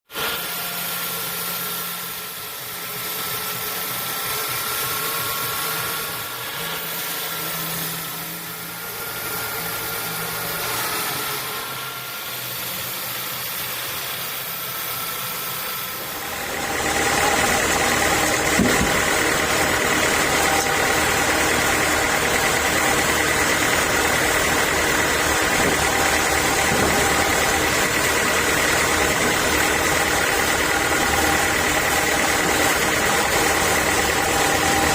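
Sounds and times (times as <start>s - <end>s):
high machine whine: 0.1s - 34.9s
sawmill machinery running: 0.1s - 34.9s.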